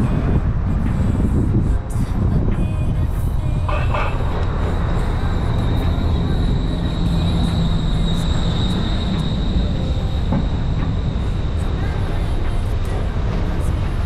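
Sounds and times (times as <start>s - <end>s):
faint high whine: 0.0s - 14.0s
vehicle engine rumble: 0.0s - 14.0s.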